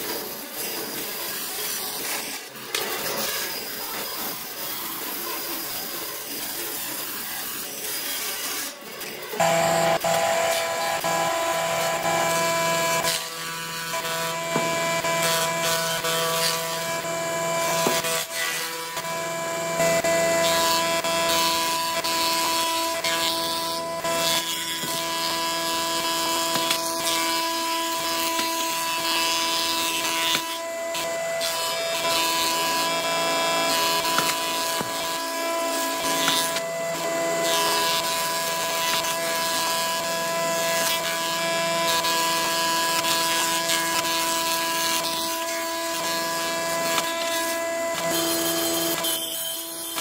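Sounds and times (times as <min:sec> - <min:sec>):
planer cutter shaving wood: 0:00.0 - 0:50.0.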